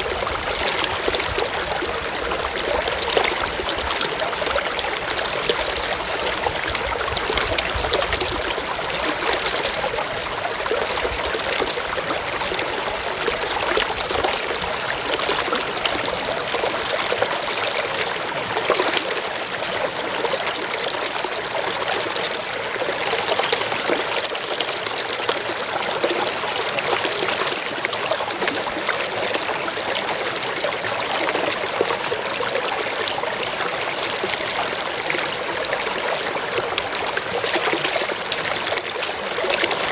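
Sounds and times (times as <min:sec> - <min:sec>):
water flowing and trickling: 0:00.0 - 0:39.9.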